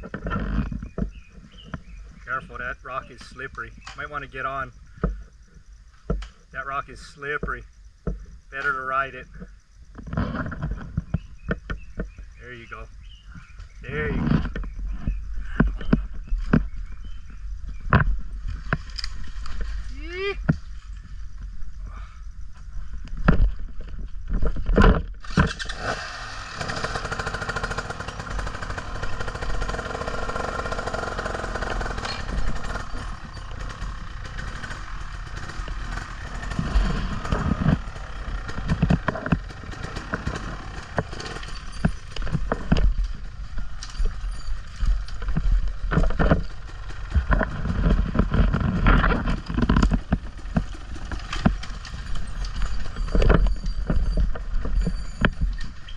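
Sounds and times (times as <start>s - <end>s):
knocks and clunks from bike: 0.0s - 2.3s, 4.9s - 6.4s, 7.3s - 19.8s, 20.4s - 25.9s, 26.6s - 55.9s
dirt bike motor drone: 0.0s - 55.9s.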